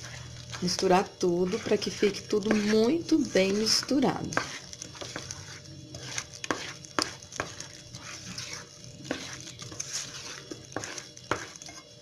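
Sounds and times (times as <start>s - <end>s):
wooden spoon stirring batter: 0.0s - 12.0s.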